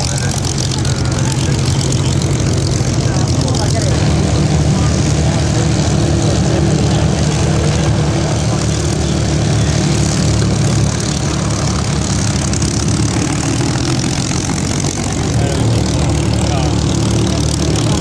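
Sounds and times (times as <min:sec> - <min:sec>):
piston aircraft engines idling: 0:00.0 - 0:18.0.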